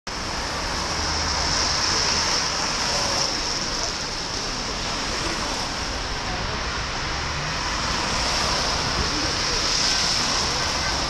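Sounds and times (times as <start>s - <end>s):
car tyres hissing on wet road: 0.1s - 11.0s.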